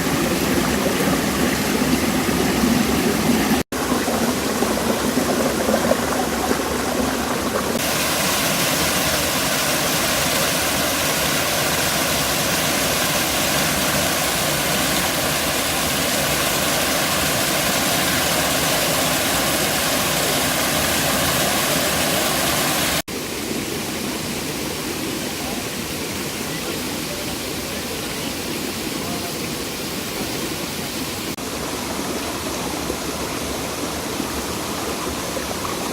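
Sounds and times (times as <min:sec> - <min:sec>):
river and waterfall rushing: 0:00.0 - 0:35.9.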